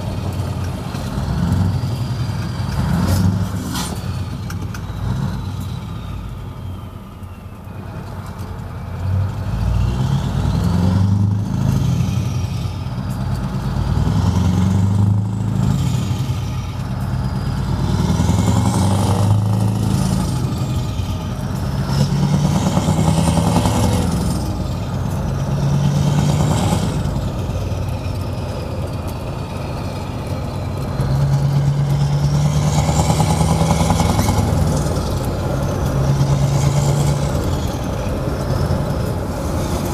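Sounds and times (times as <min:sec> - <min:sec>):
truck engine revving through gears: 0:00.0 - 0:06.9, 0:07.8 - 0:39.9.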